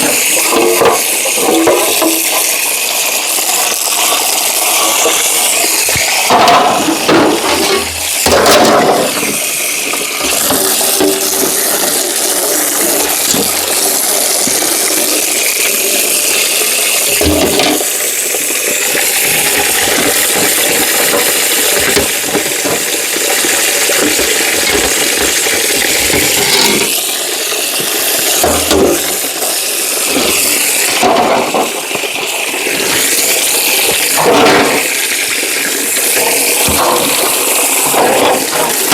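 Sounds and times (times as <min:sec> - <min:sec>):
parts knocking and clattering: 0:00.0 - 0:38.9
running water splashing: 0:00.0 - 0:38.9.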